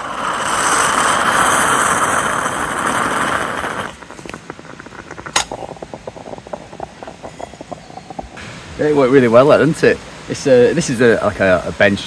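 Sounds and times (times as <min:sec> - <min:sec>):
fire log crackling and popping: 0:00.0 - 0:09.8
loud steady rushing hiss: 0:00.0 - 0:12.0.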